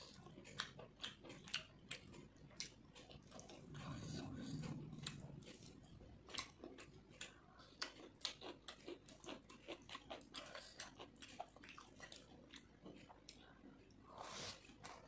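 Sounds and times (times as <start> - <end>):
chewing and wet mouth smacks: 0.0 - 14.0.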